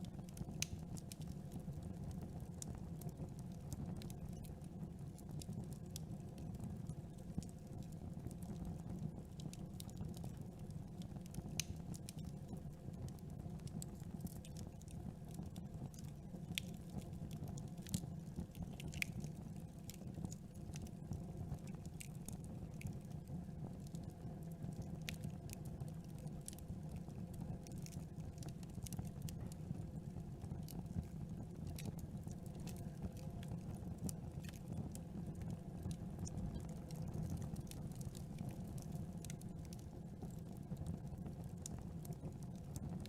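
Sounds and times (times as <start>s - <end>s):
campfire rumbling: 0.0s - 43.0s
wood crackling and popping: 0.0s - 43.0s.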